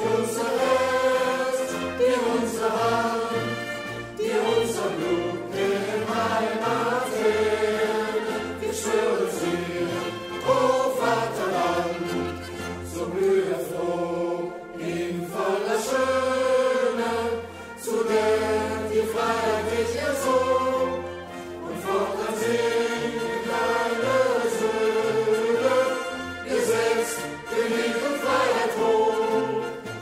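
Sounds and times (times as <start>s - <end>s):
choir singing slow phrases: 0.0s - 30.0s.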